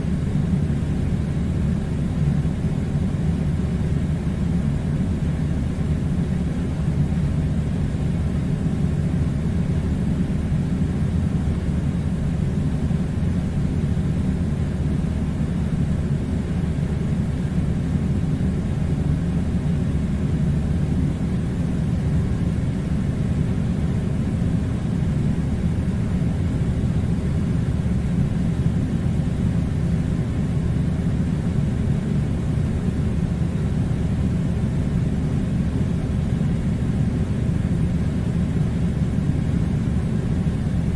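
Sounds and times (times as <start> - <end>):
air conditioner running: 0.0 - 40.9.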